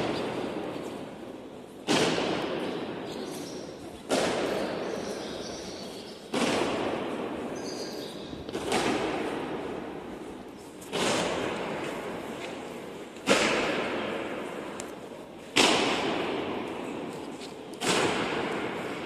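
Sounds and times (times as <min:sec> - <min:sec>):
boots stamping in echoing hall: 0:00.0 - 0:19.0.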